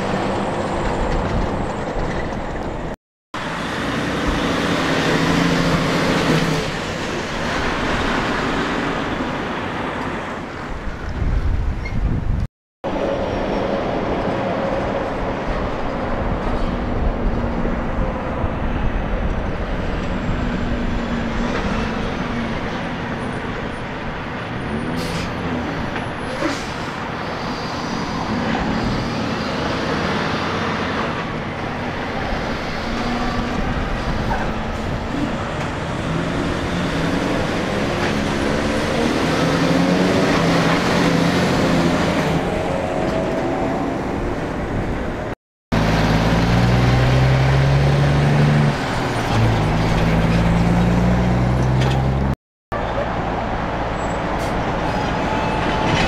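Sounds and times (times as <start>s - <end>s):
trucks passing on road: 0.0s - 56.0s.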